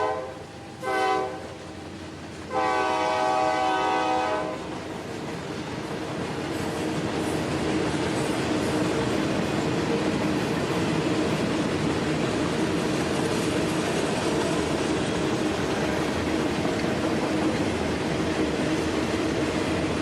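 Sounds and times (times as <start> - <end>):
train cars rumbling on track: 0.0 - 20.0.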